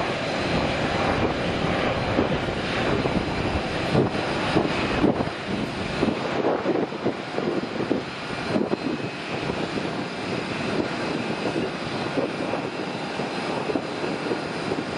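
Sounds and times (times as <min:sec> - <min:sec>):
faint high engine whine: 0:00.0 - 0:14.9
jet engines crackling rumble: 0:00.0 - 0:14.9.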